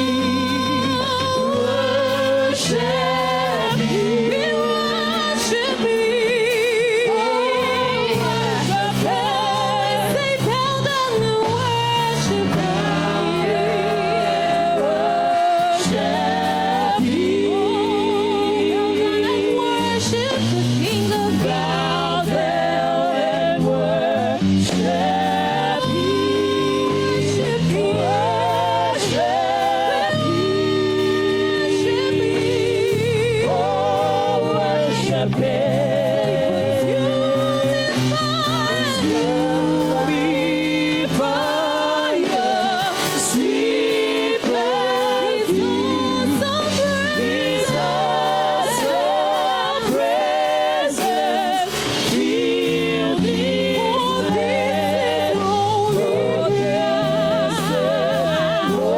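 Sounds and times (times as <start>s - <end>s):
choir singing gospel music: 0.0s - 58.9s
sustained instrumental chords: 0.0s - 58.9s.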